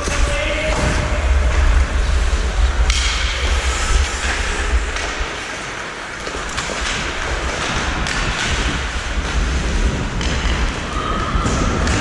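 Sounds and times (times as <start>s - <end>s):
low wind rumble on microphone: 0.0s - 12.0s.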